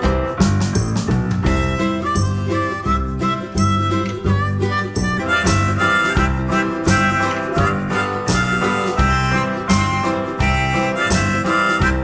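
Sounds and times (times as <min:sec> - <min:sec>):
acoustic guitar with bouncy beat: 0:00.0 - 0:12.0
harmonica: 0:01.4 - 0:12.0.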